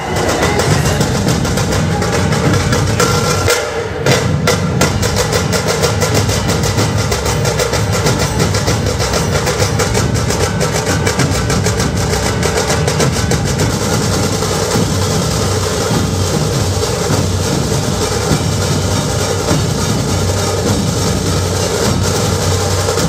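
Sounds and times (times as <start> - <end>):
barrel drums beaten: 0.0 - 23.0.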